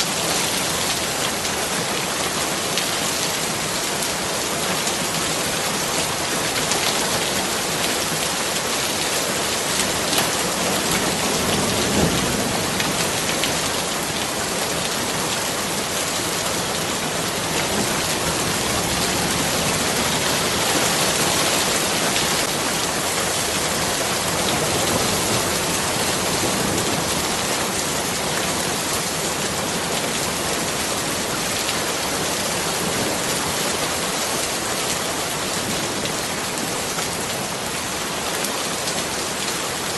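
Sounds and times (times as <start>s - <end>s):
dense rain pattering: 0.0s - 39.9s.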